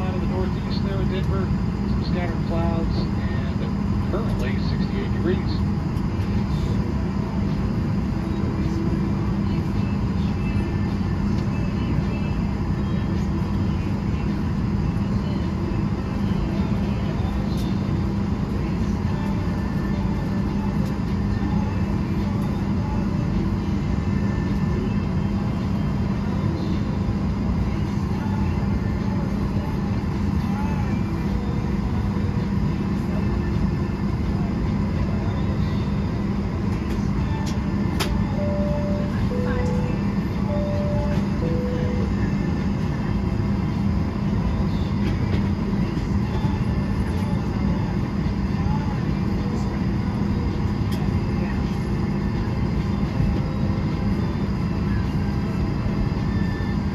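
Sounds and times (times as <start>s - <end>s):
airliner cabin noise: 0.0s - 56.9s.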